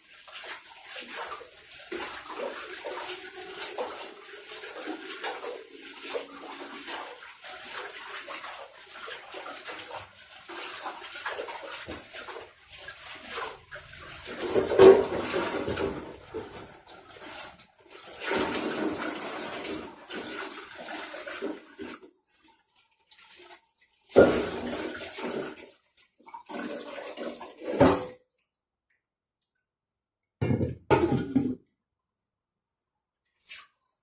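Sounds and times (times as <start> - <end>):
running water splashing: 0.0 - 29.0.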